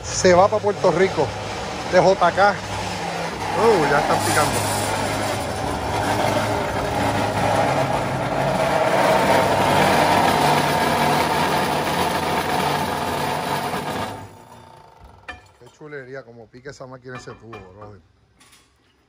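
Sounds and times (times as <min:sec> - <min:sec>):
machine motor hum: 0:00.0 - 0:15.6
saw disc cutting steel tube: 0:00.0 - 0:15.8.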